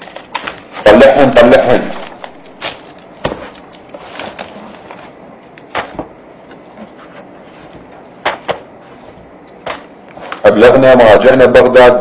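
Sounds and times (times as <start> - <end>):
cardboard and plastic rustling: 0.0 - 0.9, 1.8 - 10.5.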